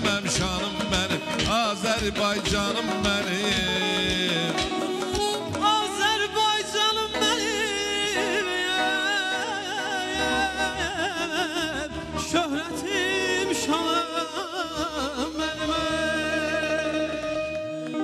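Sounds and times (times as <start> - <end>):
live band playing: 0.0 - 18.0
man singing: 0.0 - 18.0.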